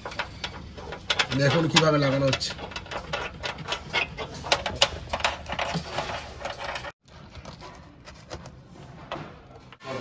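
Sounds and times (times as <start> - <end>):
metallic clicks of nuts and bolts: 0.0 - 8.6.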